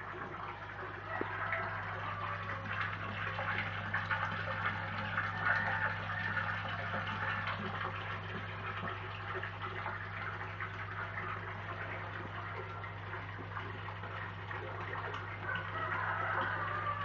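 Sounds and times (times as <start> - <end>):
water churning and bubbling: 0.0 - 17.0.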